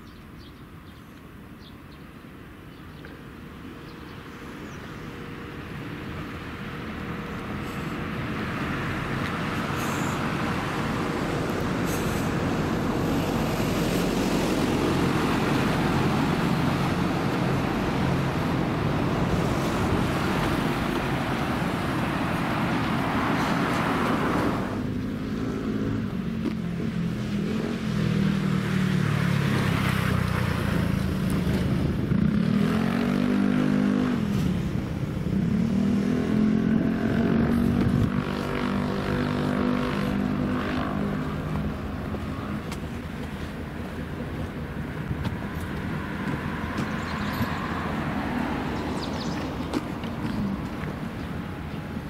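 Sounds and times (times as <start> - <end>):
passing vehicles rushing: 2.3 - 52.0.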